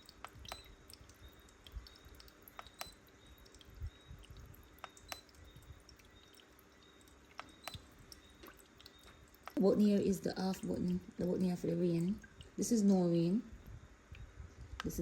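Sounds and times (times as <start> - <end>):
faint steady hum: 0.0 - 15.0
water dripping into a basin: 0.0 - 15.0.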